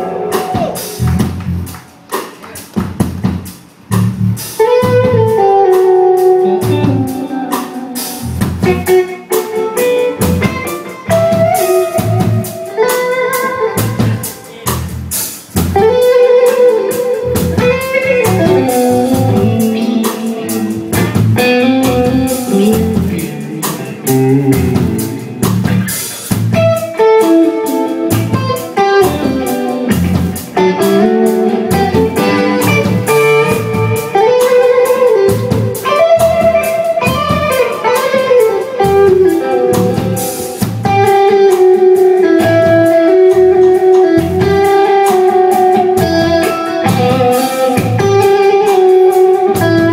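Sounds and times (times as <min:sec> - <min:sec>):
bass guitar: 0:00.0 - 0:49.9
drum kit: 0:00.0 - 0:49.9
electric guitar lead: 0:00.0 - 0:49.9.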